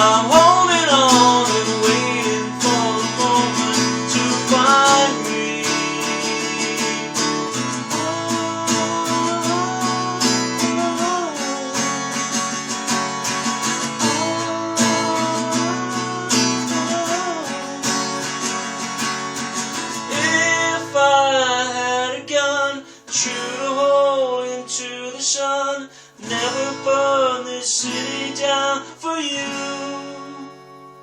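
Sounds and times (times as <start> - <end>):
acoustic guitar strumming: 0.0 - 31.0
sliding guitar melody: 0.0 - 31.0.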